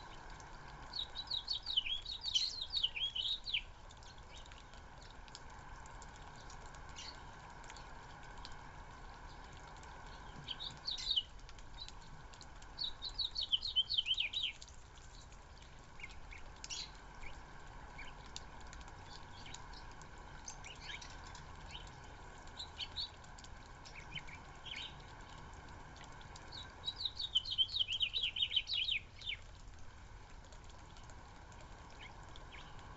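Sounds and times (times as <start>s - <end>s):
small birds chirping: 0.0s - 29.6s, 30.4s - 32.9s
faint background hum: 0.0s - 32.9s.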